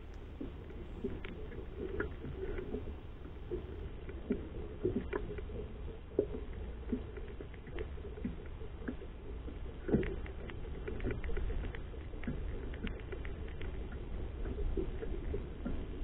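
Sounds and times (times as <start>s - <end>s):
low steady rumble: 0.0s - 16.0s
water lapping against boat hull: 0.0s - 16.0s.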